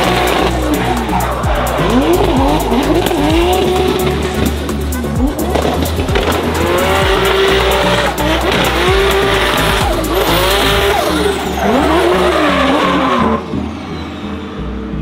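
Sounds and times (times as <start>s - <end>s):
music with steady beat: 0.0s - 13.4s
car engine revving: 0.0s - 15.0s
tyres squealing: 0.0s - 15.0s.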